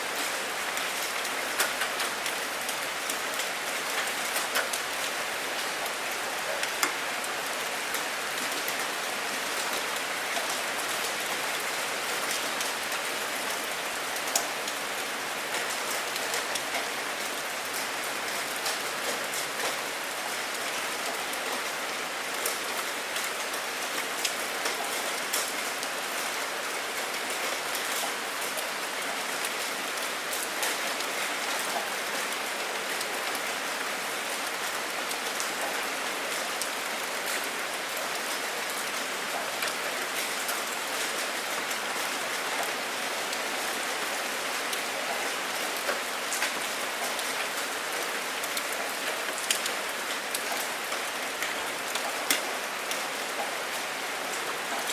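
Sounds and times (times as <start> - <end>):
steady rainfall: 0.0 - 54.9
raindrops ticking on a surface: 0.1 - 54.9.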